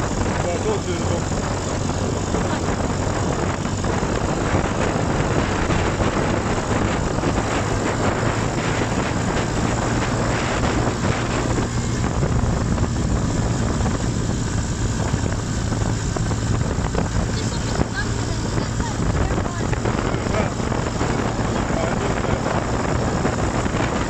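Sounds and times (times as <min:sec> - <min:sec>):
buggy engine running: 0:00.0 - 0:24.0
wind noise on microphone: 0:00.0 - 0:24.0.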